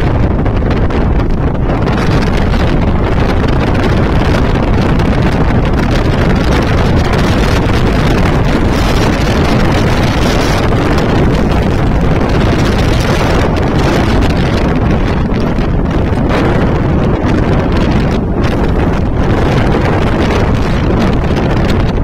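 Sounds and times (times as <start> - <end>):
vehicle travel rumble: 0.0 - 22.0
wind buffeting microphone: 0.0 - 22.0.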